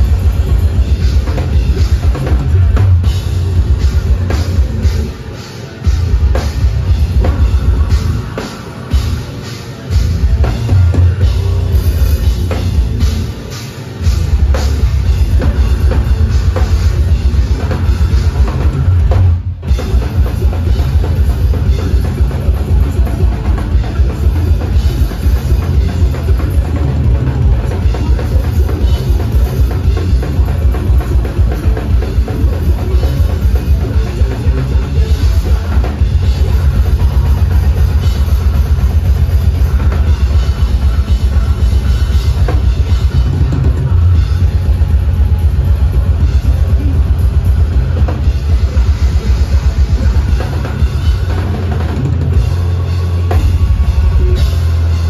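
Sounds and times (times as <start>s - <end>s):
distorted electric guitars: 0.0s - 55.0s
drums with rapid bass drum: 0.0s - 55.0s.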